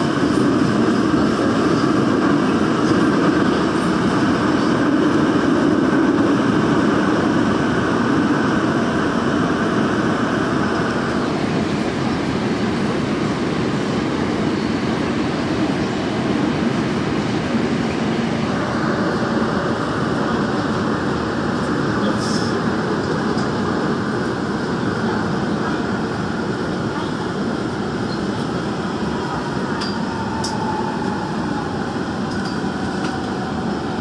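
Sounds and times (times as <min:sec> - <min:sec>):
subway train wheels rumbling: 0:00.0 - 0:34.0.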